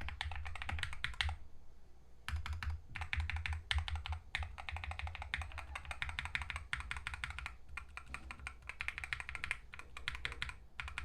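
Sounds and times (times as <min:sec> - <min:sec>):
mechanical keyboard typing: 0:00.0 - 0:01.4, 0:02.3 - 0:11.0.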